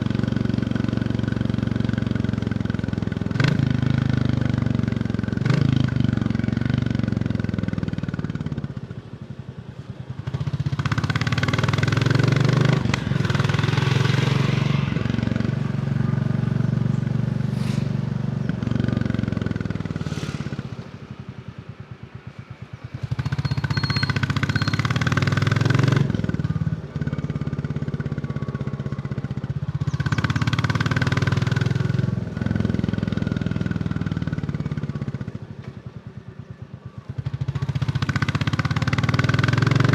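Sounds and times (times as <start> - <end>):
motorcycle engine revving: 0.0 - 8.8, 10.2 - 35.4, 37.1 - 39.9.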